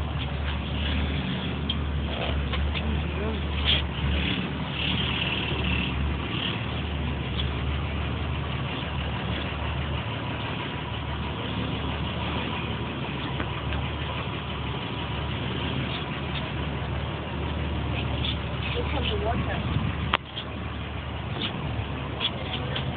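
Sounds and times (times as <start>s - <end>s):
boat engine drone: 0.0s - 22.9s.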